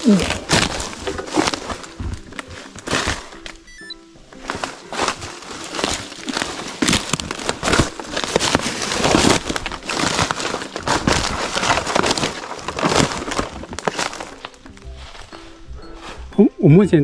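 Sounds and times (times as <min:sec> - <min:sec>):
footsteps rustling through dry leaves: 0:00.0 - 0:16.5.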